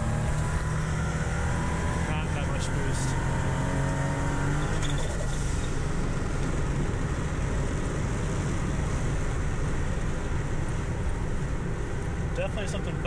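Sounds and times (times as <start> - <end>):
car engine: 0.0 - 13.0.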